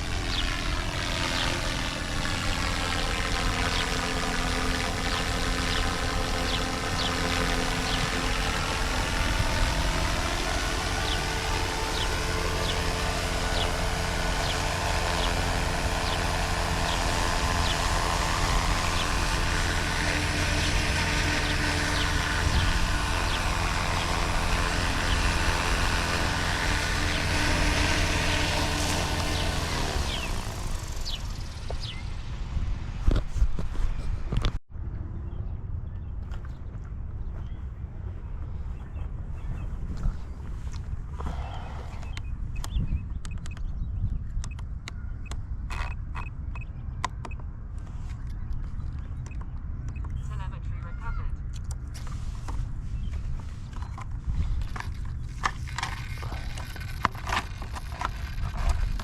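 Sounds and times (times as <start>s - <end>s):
small aircraft flying overhead: 0.0s - 59.0s.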